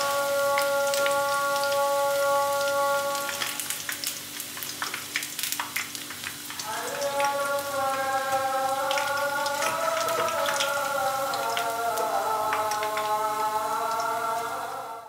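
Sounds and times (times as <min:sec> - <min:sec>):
fritters crackling in hot oil: 0:00.0 - 0:14.6.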